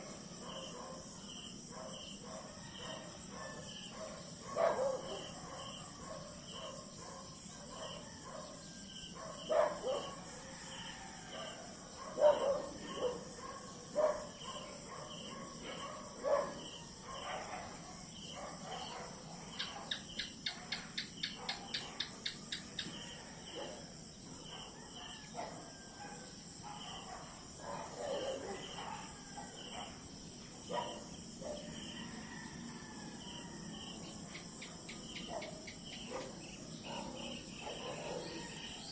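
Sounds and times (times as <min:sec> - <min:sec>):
crickets chirping: 0:00.0 - 0:38.9
rapid insect pulses: 0:00.0 - 0:38.9.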